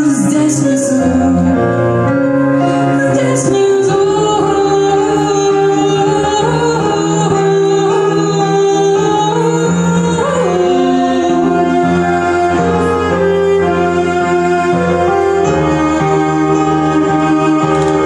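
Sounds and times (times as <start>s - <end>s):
bowed cello: 0.0s - 18.0s
keyboard: 0.0s - 18.0s.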